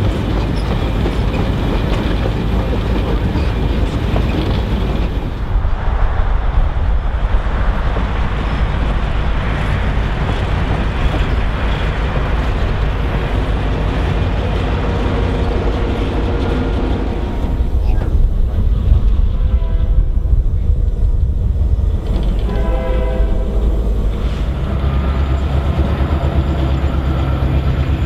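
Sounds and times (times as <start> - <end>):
diesel locomotive engine passing: 0.0 - 28.0
train wheels rumbling on rails: 0.0 - 28.0.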